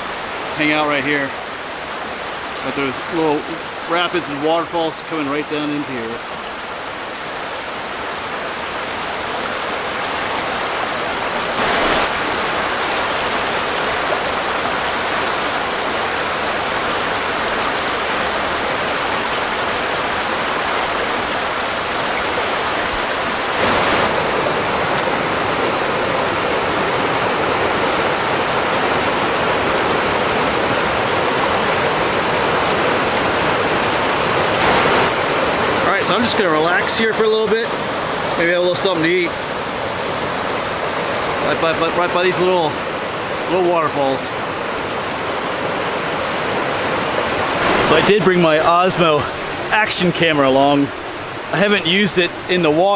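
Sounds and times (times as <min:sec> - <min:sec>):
water rushing into a pool: 0:00.0 - 0:52.9.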